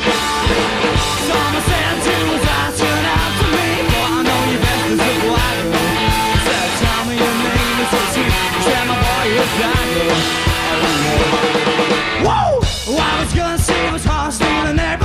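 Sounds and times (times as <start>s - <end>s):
rock song with drums and vocals: 0.0s - 15.0s.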